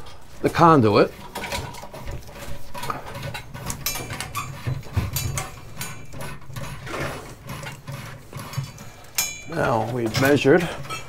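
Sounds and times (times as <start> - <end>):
wire scraping through metal conduit: 0.0 - 11.0.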